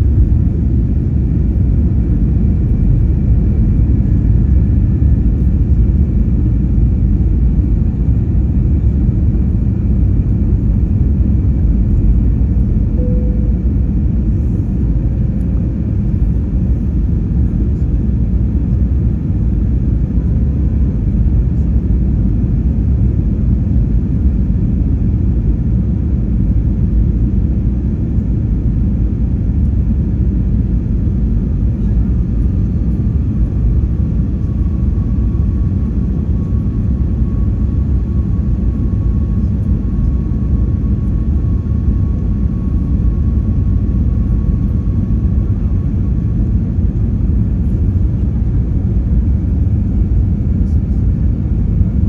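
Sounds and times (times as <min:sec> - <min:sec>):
jet engine rumble in cabin: 0:00.0 - 0:52.0.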